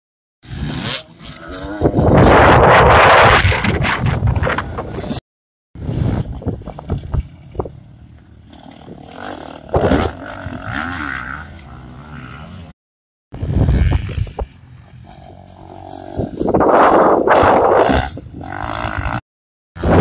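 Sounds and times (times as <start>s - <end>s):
dirt bike engines revving: 0.4s - 5.2s, 5.8s - 12.7s, 13.4s - 19.2s.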